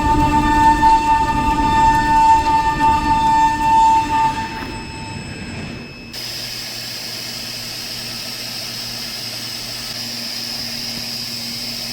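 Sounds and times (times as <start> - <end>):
machining centre hiss and whine: 0.0 - 11.9.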